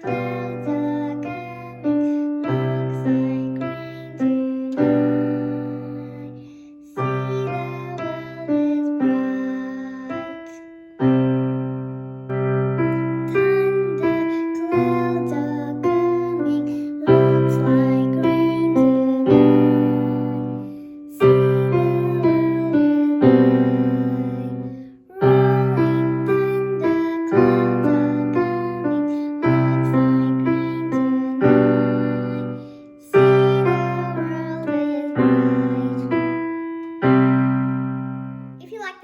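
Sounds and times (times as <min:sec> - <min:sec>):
piano playing a simple tune: 0:00.0 - 0:39.0.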